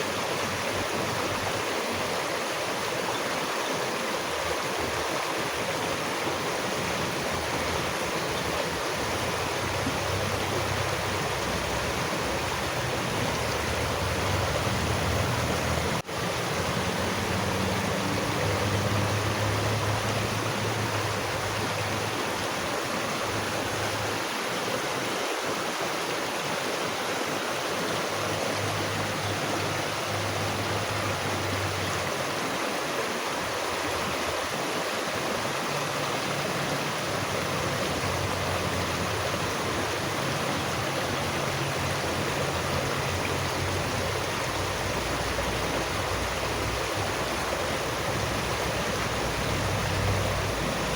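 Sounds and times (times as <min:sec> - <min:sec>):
stream rushing: 0:00.0 - 0:50.9.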